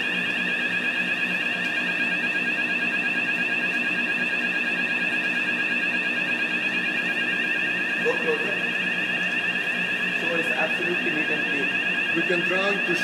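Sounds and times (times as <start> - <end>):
fire alarm sounder: 0.0 - 13.0.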